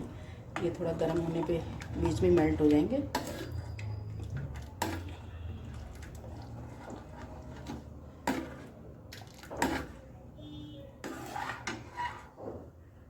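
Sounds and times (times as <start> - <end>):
spoon knocking and scraping a pot: 0.0 - 10.0, 11.0 - 12.7.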